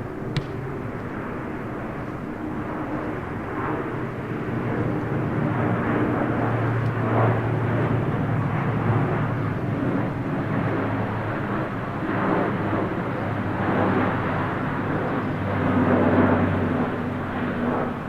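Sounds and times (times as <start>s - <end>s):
turboprop aircraft flying past: 0.0s - 18.0s.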